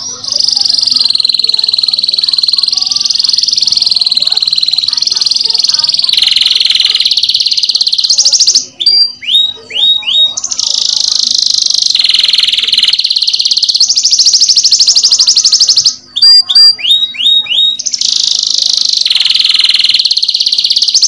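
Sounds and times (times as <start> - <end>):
canary trilling: 0.0 - 21.0.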